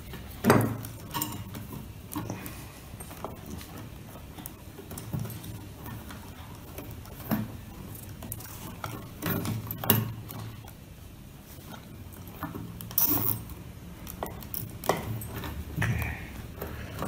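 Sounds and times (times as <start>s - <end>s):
wires rustling: 0.0s - 17.0s.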